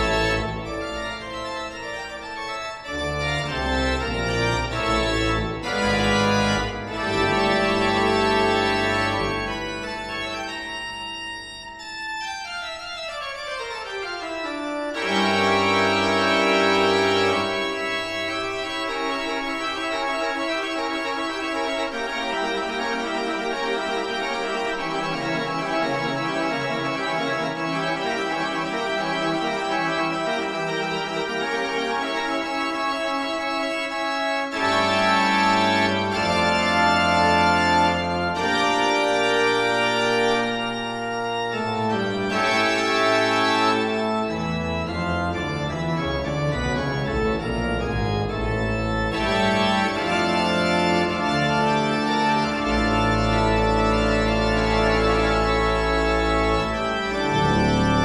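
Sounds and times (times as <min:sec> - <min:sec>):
organ music with held chords: 0:00.0 - 0:58.0.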